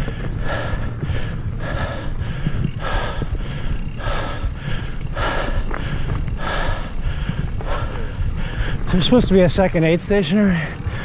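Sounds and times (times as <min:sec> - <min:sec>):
bike tyres rumbling on dirt: 0:00.0 - 0:11.0
rider breathing hard: 0:00.0 - 0:11.0
wind: 0:00.0 - 0:11.0.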